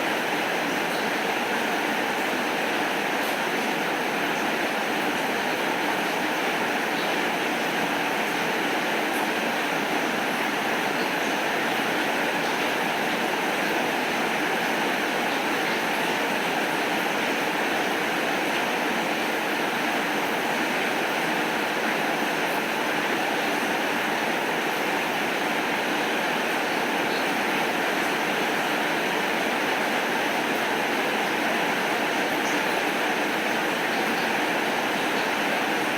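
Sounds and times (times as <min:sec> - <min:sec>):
steady rainfall: 0:00.0 - 0:35.9.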